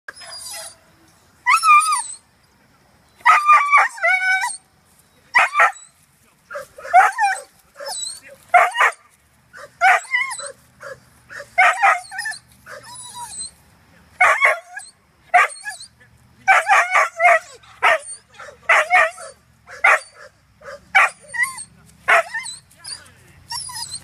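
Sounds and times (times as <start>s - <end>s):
dog yipping and whining: 0.1s - 0.8s, 1.4s - 2.2s, 3.2s - 4.6s, 5.4s - 5.9s, 6.5s - 9.0s, 9.6s - 13.6s, 14.2s - 24.0s.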